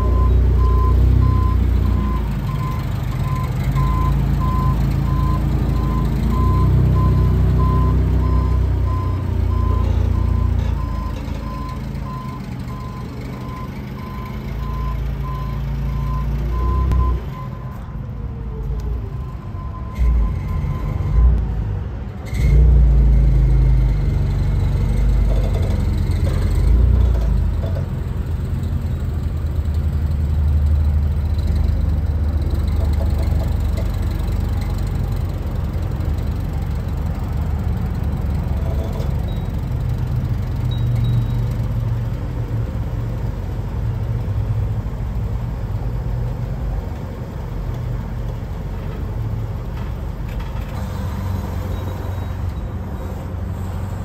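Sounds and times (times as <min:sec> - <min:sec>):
forklift engine humming: 0:00.0 - 0:54.0.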